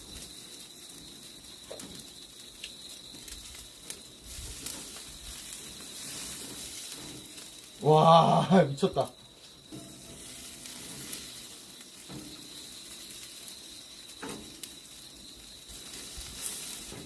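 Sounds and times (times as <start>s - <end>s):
dripping fat crackling: 0.0s - 17.0s
meat sizzling on a grill: 0.0s - 17.0s.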